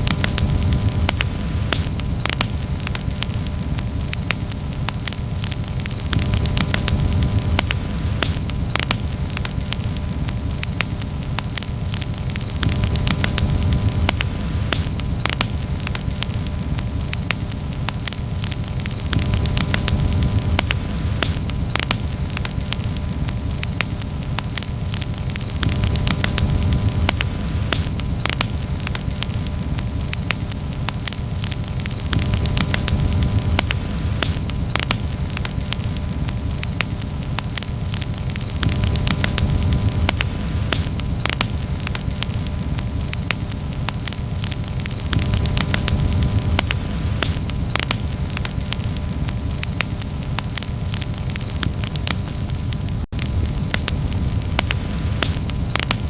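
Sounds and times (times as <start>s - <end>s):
campfire crackling and popping: 0.0s - 56.0s
low rush of flame: 0.0s - 56.0s.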